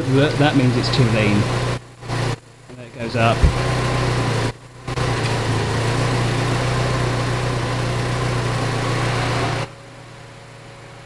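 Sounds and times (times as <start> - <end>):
car engine idling: 0.0 - 8.9.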